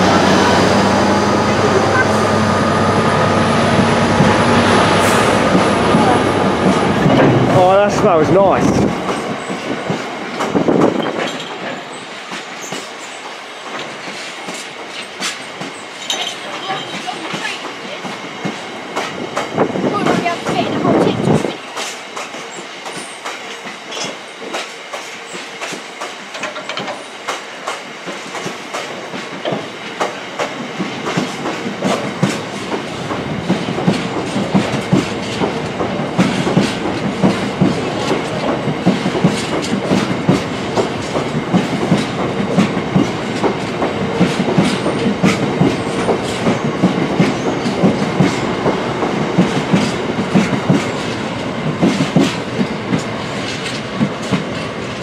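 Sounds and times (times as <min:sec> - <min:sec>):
train wheels clattering over rail joints: 0:03.8 - 0:55.0.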